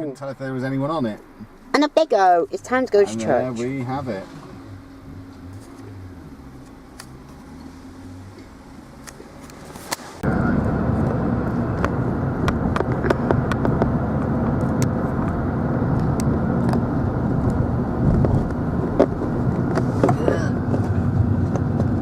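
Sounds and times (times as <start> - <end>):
moving vehicle rumble: 0.0 - 22.0.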